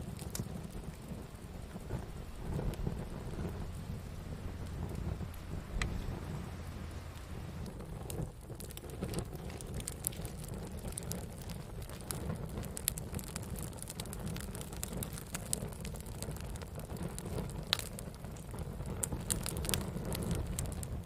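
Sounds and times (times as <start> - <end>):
fire crackles and pops: 0.0 - 21.0
wood fire rumbling: 0.0 - 21.0.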